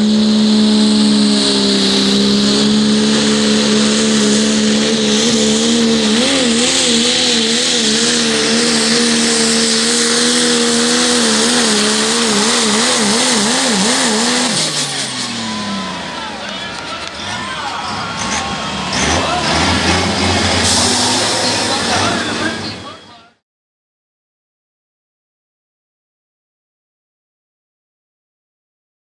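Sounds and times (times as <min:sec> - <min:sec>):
diesel engine at full throttle: 0:00.0 - 0:23.4.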